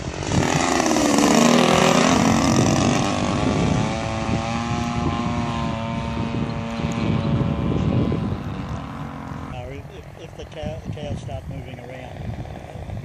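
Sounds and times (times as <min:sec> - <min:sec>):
model plane buzzing drone: 0:00.0 - 0:13.0.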